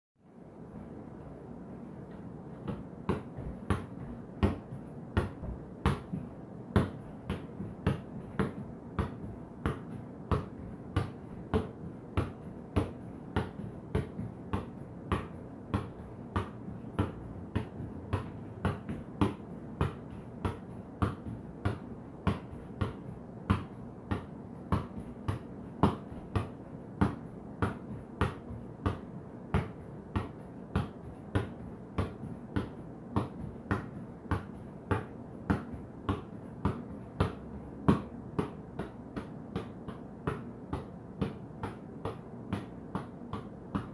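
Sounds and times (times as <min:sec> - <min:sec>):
ball tapping on bare feet: 0:02.6 - 0:43.9.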